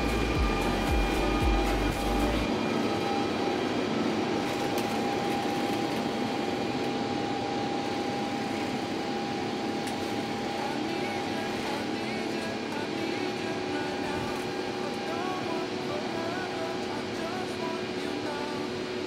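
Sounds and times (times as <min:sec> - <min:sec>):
jet cabin noise with engine whine: 0:00.0 - 0:19.0.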